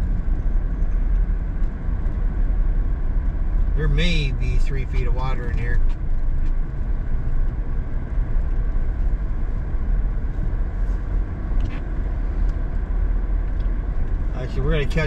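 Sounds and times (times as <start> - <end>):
truck engine and tyres rumbling: 0.0 - 15.0.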